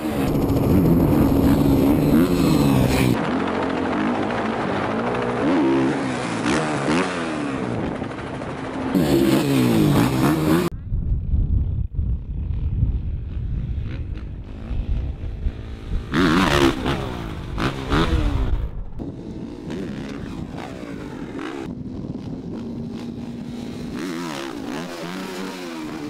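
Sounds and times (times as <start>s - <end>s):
motocross bike engine revving: 0.0s - 10.7s, 13.3s - 26.0s.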